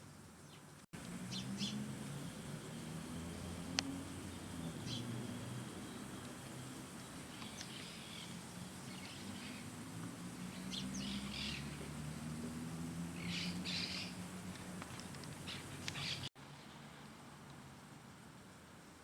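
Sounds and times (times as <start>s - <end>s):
songbirds chirping: 0.1s - 16.7s.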